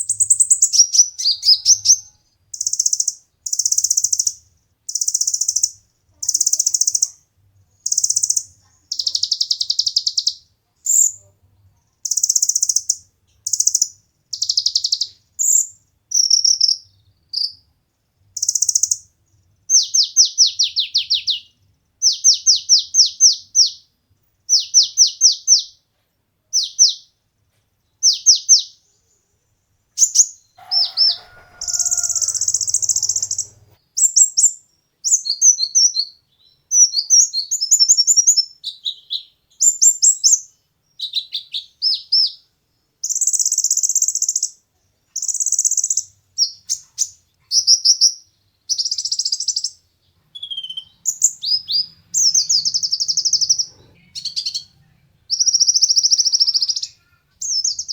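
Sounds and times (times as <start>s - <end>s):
sunbird chirping and trilling: 0.0s - 11.2s, 12.0s - 17.7s, 18.4s - 25.8s, 26.5s - 27.2s, 28.0s - 44.6s, 45.2s - 57.9s.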